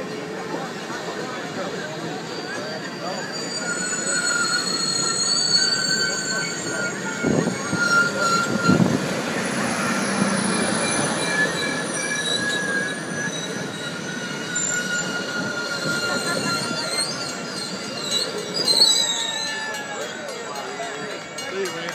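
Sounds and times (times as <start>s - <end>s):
train running gear rumble: 0.0s - 21.9s
train wheels squealing: 0.0s - 21.9s.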